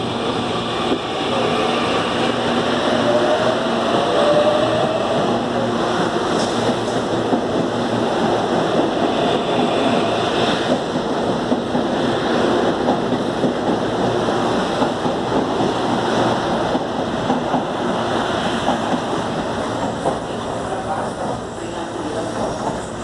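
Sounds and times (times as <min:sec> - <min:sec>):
electric train rolling rumble: 0:00.0 - 0:23.0.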